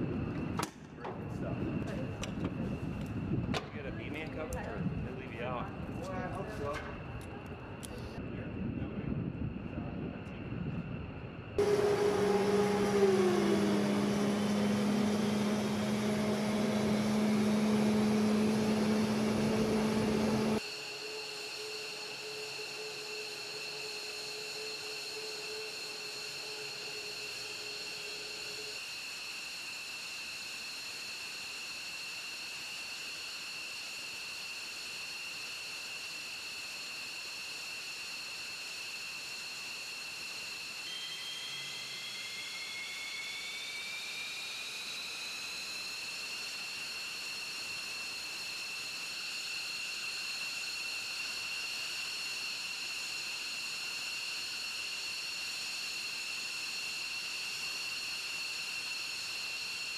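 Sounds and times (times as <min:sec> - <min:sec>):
jet engine high-pitched whine: 0:00.0 - 0:59.9
rising jet engine whine: 0:00.0 - 0:59.9.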